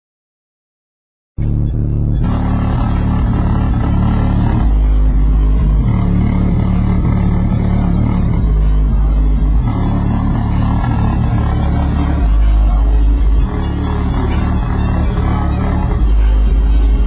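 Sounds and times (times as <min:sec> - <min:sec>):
bass-heavy music from subwoofers: 0:01.4 - 0:17.0.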